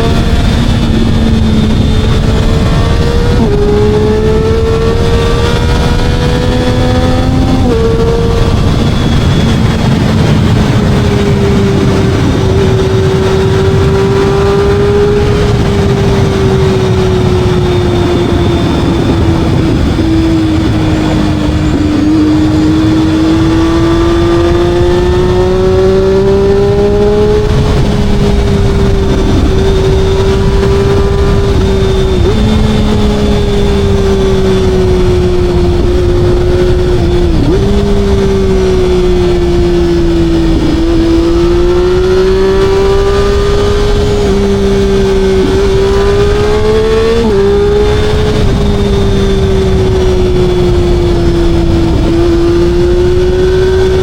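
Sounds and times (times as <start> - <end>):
constant rushing noise: 0.0 - 54.0
motorcycle engine cruising: 0.0 - 54.0.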